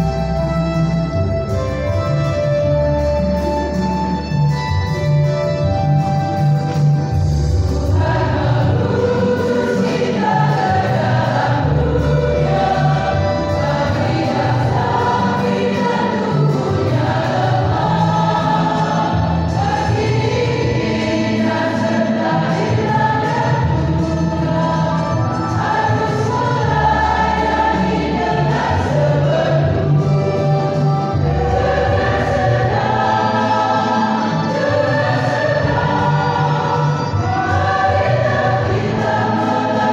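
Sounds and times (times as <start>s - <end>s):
choir singing in parts: 0.0s - 1.5s, 7.0s - 39.9s
instrumental accompaniment with bass: 0.0s - 39.9s.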